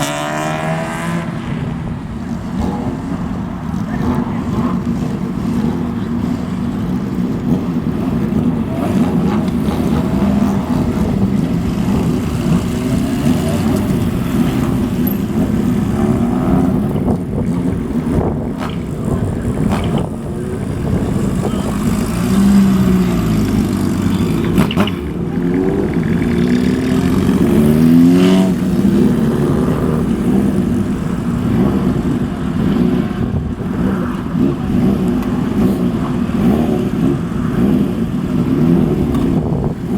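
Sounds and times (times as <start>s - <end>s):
motorcycles riding past: 0.0s - 39.9s.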